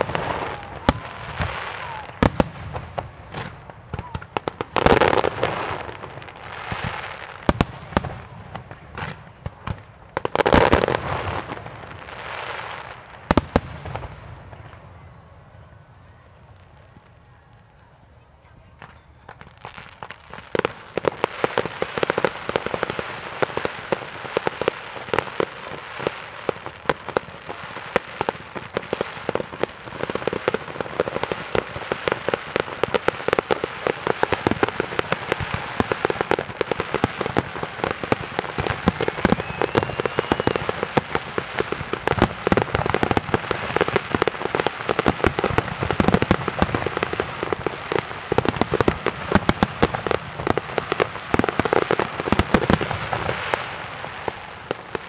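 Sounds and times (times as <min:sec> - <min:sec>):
fireworks bangs: 0:00.0 - 0:17.7, 0:18.3 - 0:55.0
fireworks crackle: 0:00.0 - 0:55.0.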